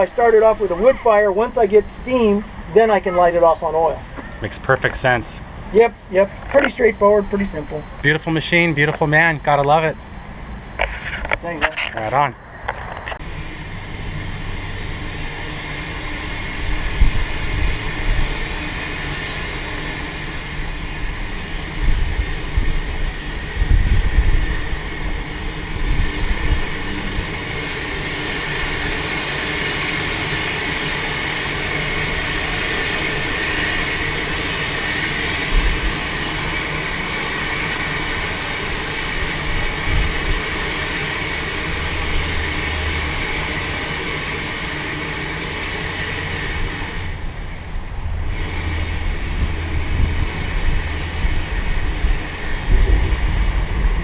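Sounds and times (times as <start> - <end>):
steam locomotive rumble and clatter: 0.0 - 54.0.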